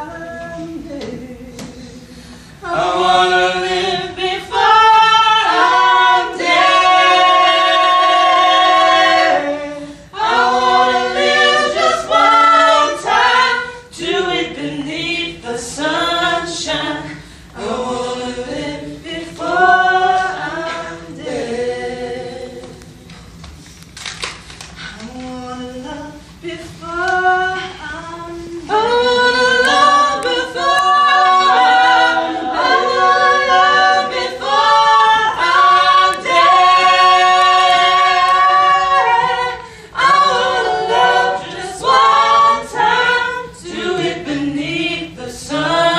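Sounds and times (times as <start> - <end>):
a cappella voices singing: 0.0 - 23.8, 24.7 - 45.9.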